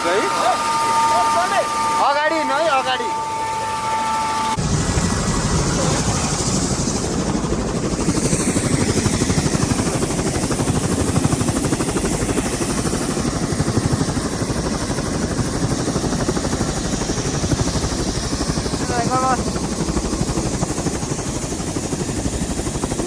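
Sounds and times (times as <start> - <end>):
helicopter rotor blades chopping: 0.0 - 23.0.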